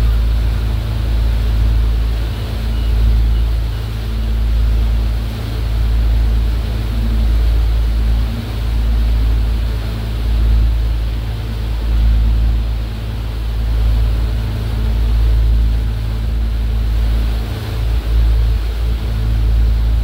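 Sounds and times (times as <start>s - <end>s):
deep rumble: 0.0s - 20.0s
motorboat engine droning: 0.0s - 20.0s
water rushing past hull: 0.0s - 20.0s.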